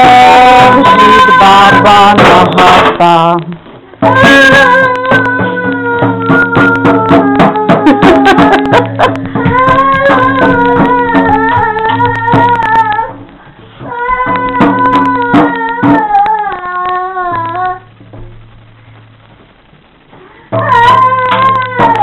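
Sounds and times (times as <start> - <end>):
high voice singing children's tune: 0.0 - 18.0, 20.5 - 22.0
stick tapping toy drum: 0.0 - 18.3, 20.5 - 22.0.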